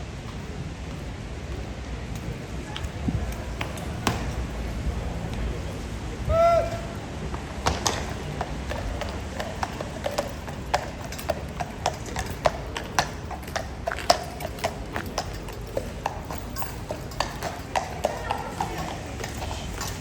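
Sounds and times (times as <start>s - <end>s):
horse hooves clip-clopping on road: 0.0s - 20.0s.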